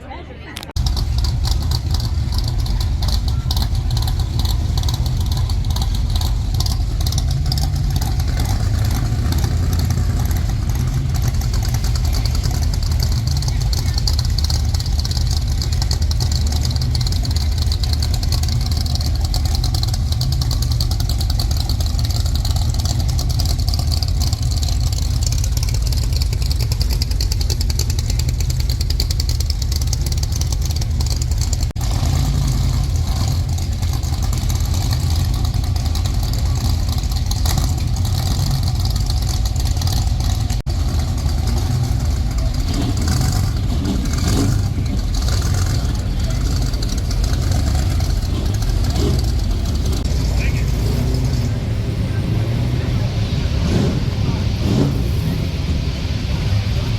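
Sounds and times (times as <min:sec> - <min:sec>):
car engines rumbling and revving: 0:00.0 - 0:56.9.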